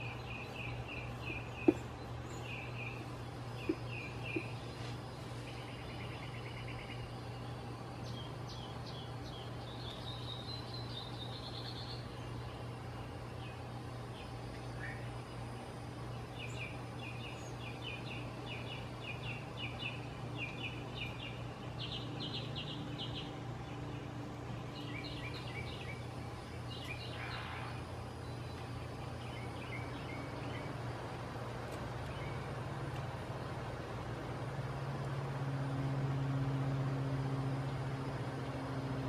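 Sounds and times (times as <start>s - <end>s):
bird chirping: 0.0s - 31.1s, 32.0s - 33.6s
steady low hum: 0.0s - 39.0s.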